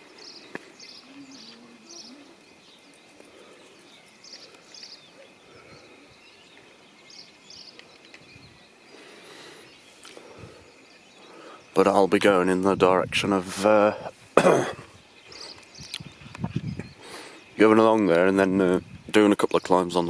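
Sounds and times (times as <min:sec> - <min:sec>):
outdoor background noise: 0:00.0 - 0:20.0
small bird chirping: 0:00.0 - 0:20.0.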